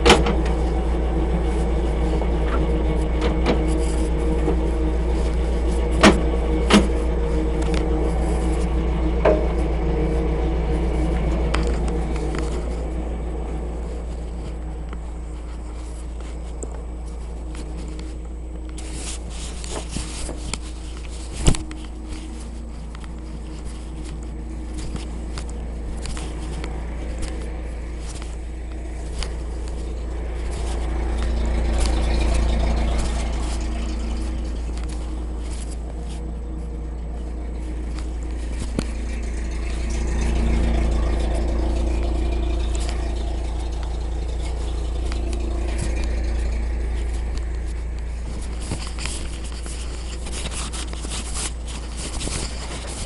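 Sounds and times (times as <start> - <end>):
armoured car engine running: 0.0 - 53.0
hull rattles and clanks: 0.0 - 53.0.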